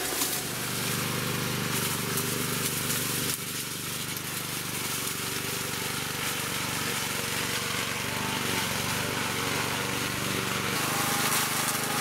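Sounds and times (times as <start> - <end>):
lawn mower cutting grass: 0.0 - 12.0.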